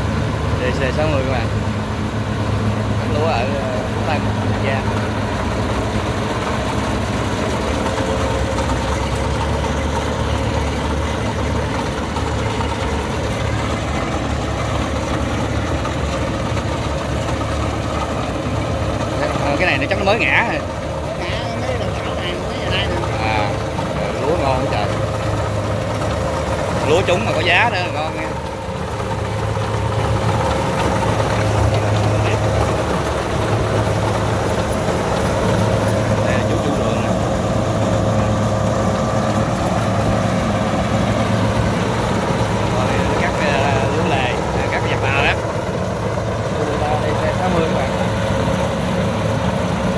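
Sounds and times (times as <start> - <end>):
diesel engine running: 0.0 - 49.9
thin steady whine: 0.0 - 49.9.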